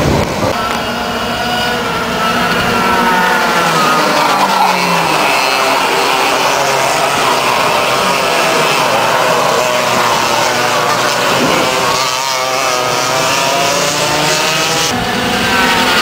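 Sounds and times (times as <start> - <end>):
go-kart engines buzzing: 0.0 - 16.0.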